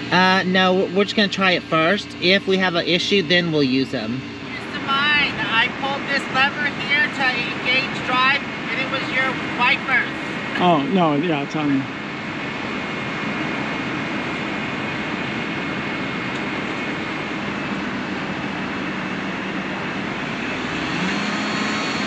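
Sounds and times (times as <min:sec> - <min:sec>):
motorhome engine running: 0:00.0 - 0:22.0
wind: 0:00.0 - 0:22.0.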